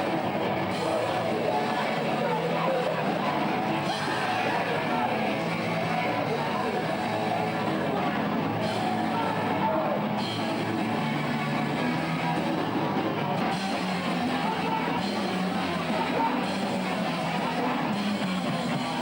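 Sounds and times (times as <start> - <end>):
electric guitar: 0.0 - 19.0
rock band playing: 0.0 - 19.0.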